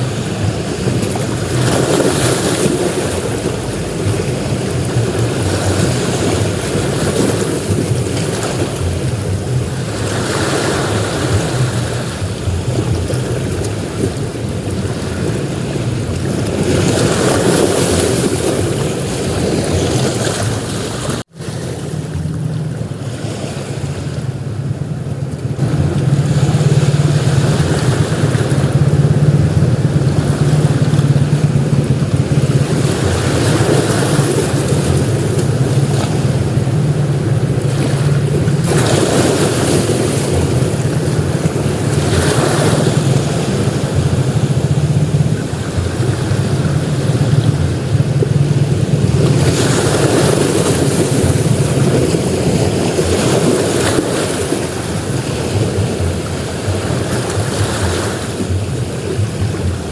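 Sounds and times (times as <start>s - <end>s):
sea waves breaking on beach: 0.0s - 59.9s
wind rumble on microphone: 0.0s - 59.9s.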